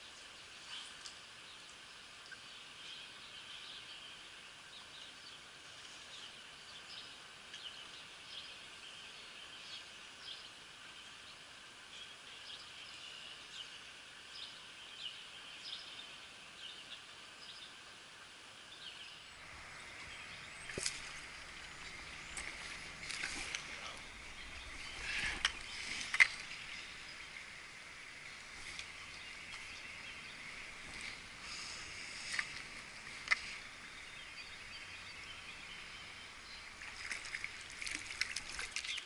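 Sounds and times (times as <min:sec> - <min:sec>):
river water flowing: 0:00.0 - 0:39.0.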